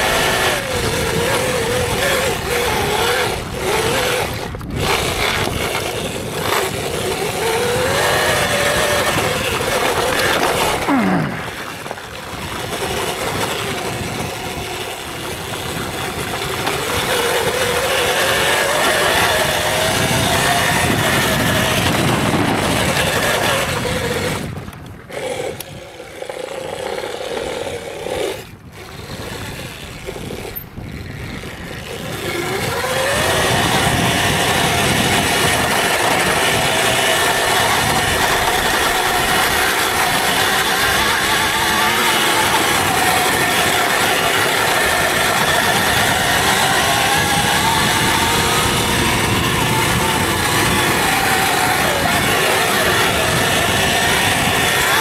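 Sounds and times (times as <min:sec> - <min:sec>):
electric motor whine: 0:00.0 - 0:55.0.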